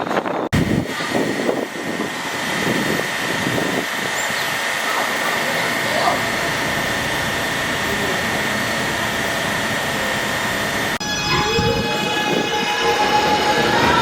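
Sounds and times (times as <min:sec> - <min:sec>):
subway train rail noise: 0:00.0 - 0:14.0
train motor whine rising: 0:00.6 - 0:14.0.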